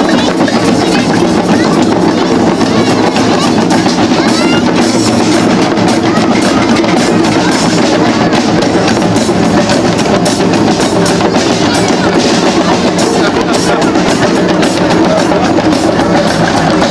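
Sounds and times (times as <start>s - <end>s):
clacking wood block percussion: 0.0s - 16.9s
crowd: 0.0s - 16.9s
drums beaten together: 0.0s - 16.9s.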